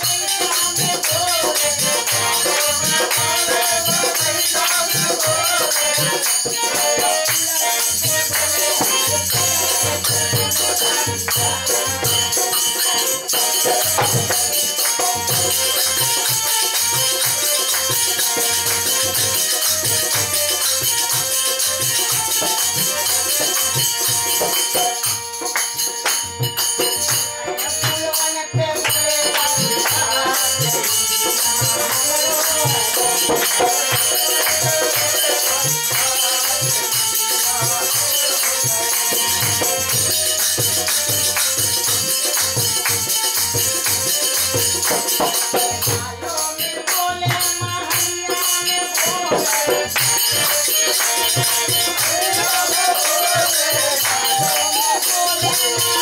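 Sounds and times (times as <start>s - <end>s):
harmonium playing held notes: 0.0s - 56.0s
jingling hand percussion: 0.0s - 56.0s.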